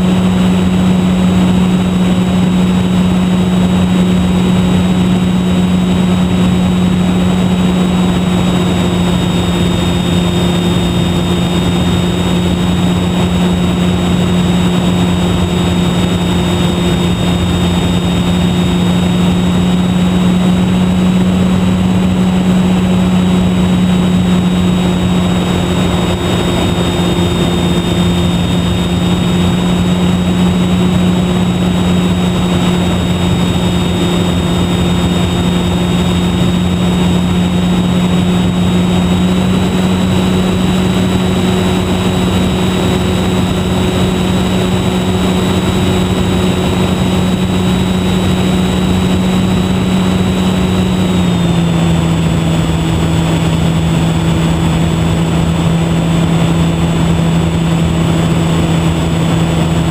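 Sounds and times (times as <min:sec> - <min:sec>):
electric motor and propeller drone: 0:00.0 - 0:59.9
rush of air noise: 0:00.0 - 0:59.9.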